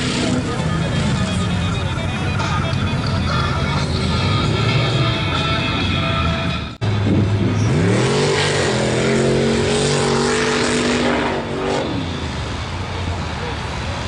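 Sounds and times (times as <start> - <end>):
truck engine revving: 0.0 - 13.7.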